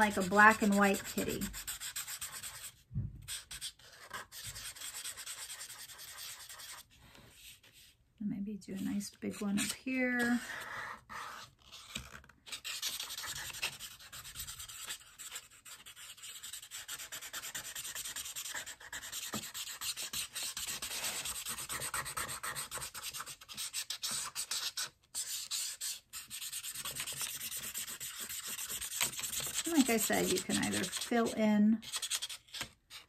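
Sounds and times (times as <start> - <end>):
marker scribbling on paper: 0.0 - 7.9, 12.5 - 33.0.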